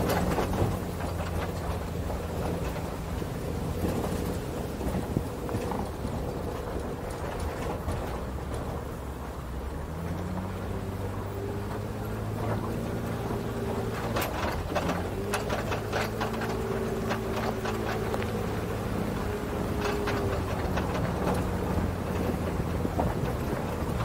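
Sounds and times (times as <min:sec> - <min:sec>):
sharp clicks and clattering knocks: 0:00.0 - 0:09.4, 0:10.0 - 0:24.0
road noise: 0:00.0 - 0:24.0
truck engine running: 0:00.0 - 0:24.0.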